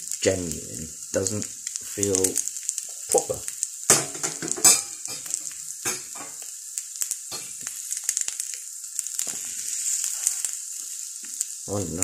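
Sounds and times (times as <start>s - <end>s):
egg sizzling in a pan: 0.0s - 12.0s.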